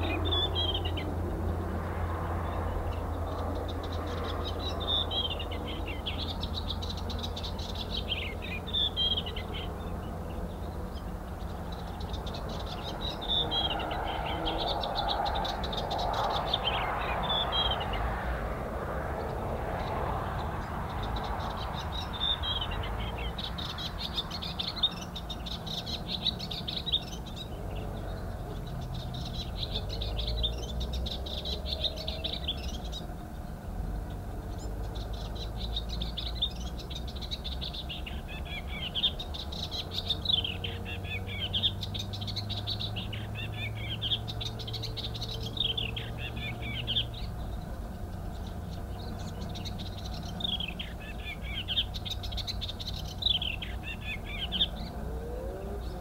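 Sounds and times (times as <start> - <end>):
warbler singing: 0.0 - 56.0.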